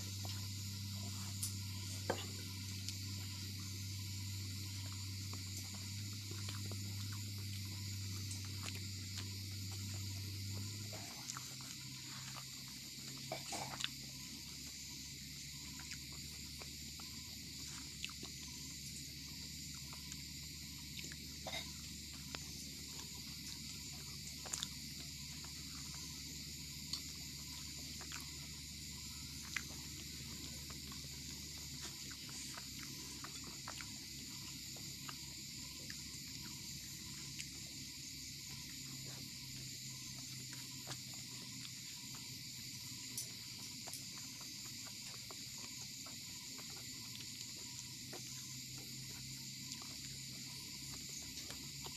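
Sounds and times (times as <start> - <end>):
crickets chirring: 0.0 - 51.9
high-pitched hiss: 0.0 - 51.9
man eating and chewing: 0.0 - 51.9.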